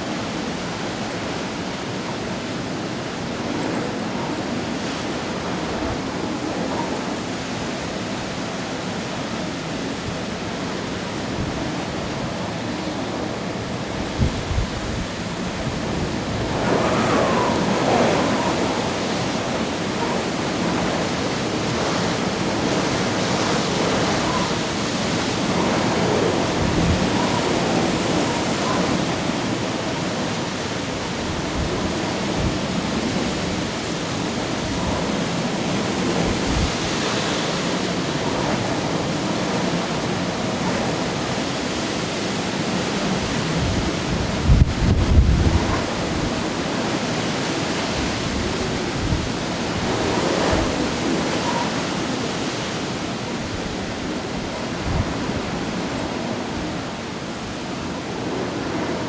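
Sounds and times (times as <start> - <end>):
driving rain: 0.0 - 59.0
wind buffeting microphone: 0.0 - 59.0.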